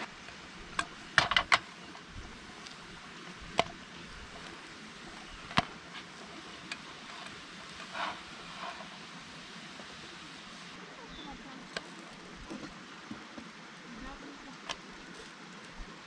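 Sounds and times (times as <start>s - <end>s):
faint gas stove hiss: 0.0s - 13.1s.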